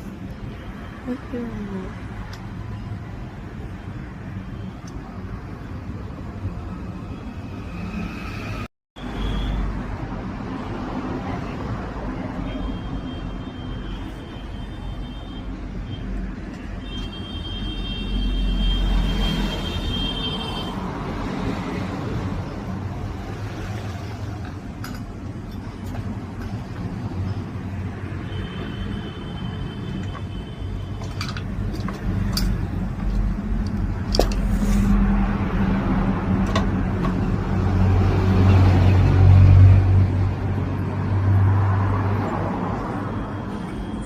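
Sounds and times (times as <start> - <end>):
motor vehicles rumbling: 0.0 - 44.0.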